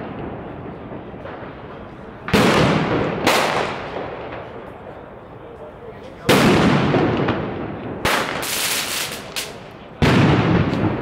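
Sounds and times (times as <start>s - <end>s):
loud firework bangs: 0.0s - 5.0s, 6.2s - 11.0s.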